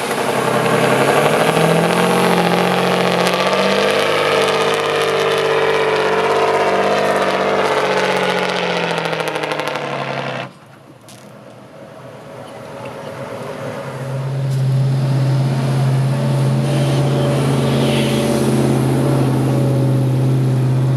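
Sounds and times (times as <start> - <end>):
truck engine running: 0.0 - 20.9.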